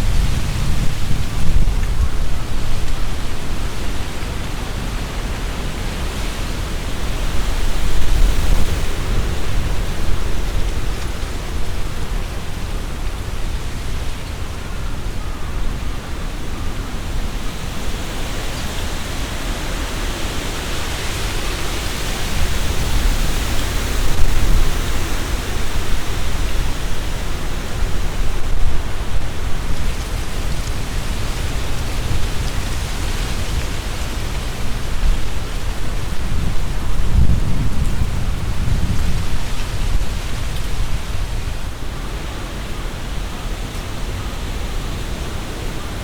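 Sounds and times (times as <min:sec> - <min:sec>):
leaves rustling: 0:00.0 - 0:46.0
strong wind gusting through trees: 0:00.0 - 0:46.0
wind buffeting on microphone: 0:00.0 - 0:46.0.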